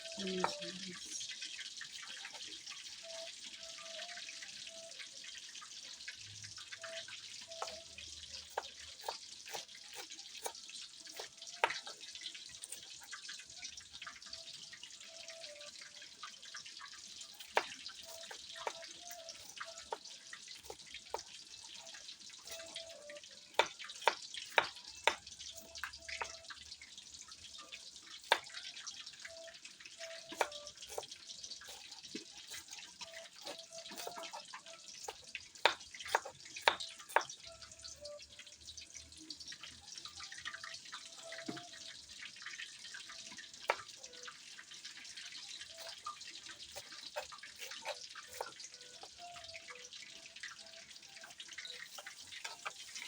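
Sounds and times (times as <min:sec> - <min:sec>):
meat sizzling in hot oil: 0:00.0 - 0:53.0
oil popping and crackling: 0:04.7 - 0:53.0.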